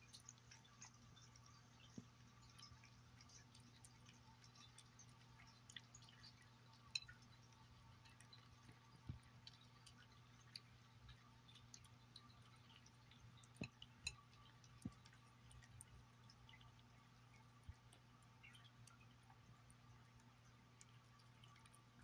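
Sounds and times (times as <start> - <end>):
cat chewing and licking: 0.0 - 22.0.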